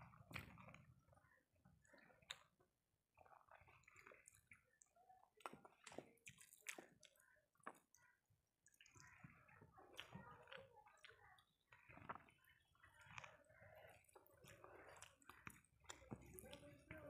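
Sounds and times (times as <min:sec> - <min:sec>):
fingers squishing food: 0:00.0 - 0:17.0
wet chewing: 0:00.0 - 0:17.0.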